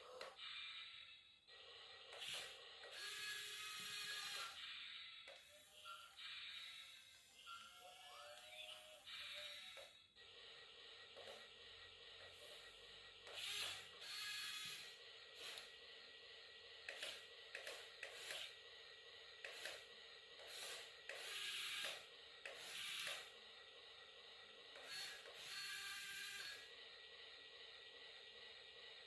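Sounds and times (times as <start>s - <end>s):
toy motors whirring and grinding: 0.0s - 29.0s.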